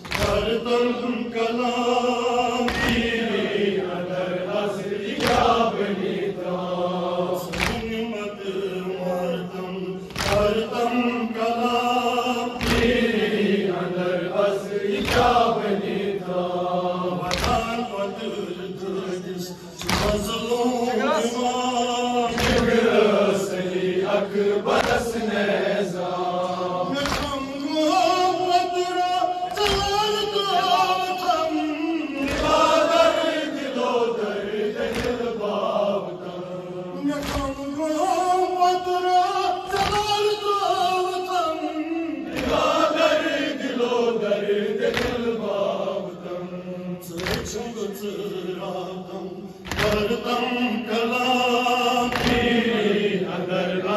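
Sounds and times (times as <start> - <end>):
sharp rhythmic chest beats: 0.0 - 8.8, 9.5 - 19.0, 19.6 - 20.7, 21.8 - 38.6, 39.3 - 41.0, 42.2 - 53.9
man chanting a lament: 0.2 - 5.8, 7.3 - 15.0, 17.2 - 25.9, 26.6 - 53.9.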